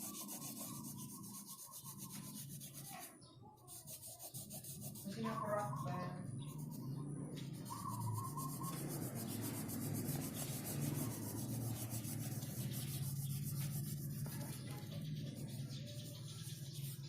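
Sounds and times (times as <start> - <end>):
colouring on paper scratchy rubbing: 0.0 - 17.0.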